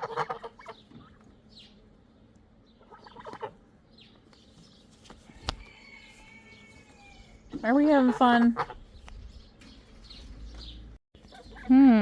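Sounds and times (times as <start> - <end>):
poultry chirps and clucks: 0.0 - 12.0.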